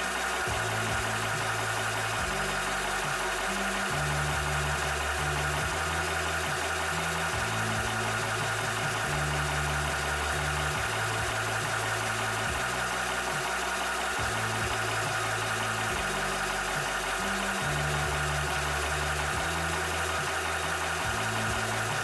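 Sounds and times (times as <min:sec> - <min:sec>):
air compressor humming and whining: 0:00.0 - 0:22.0.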